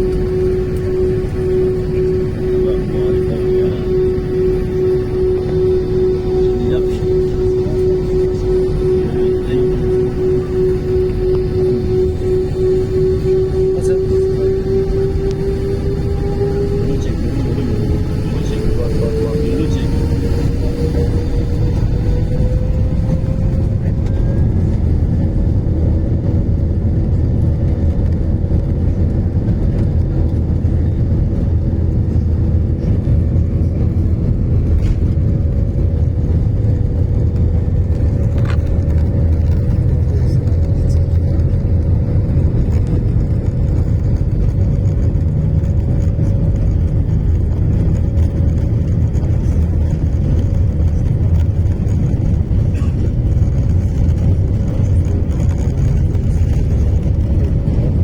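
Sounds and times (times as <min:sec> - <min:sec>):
airplane engine drone: 0:00.0 - 0:58.0
constant cabin hum: 0:00.0 - 0:58.0.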